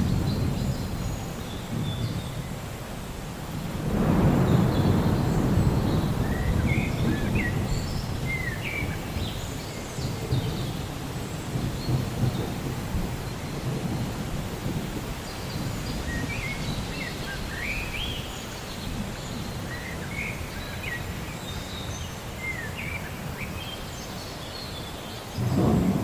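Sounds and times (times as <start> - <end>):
low thunder rumble: 0.0 - 21.6, 25.3 - 26.0
steady rain: 0.0 - 26.0.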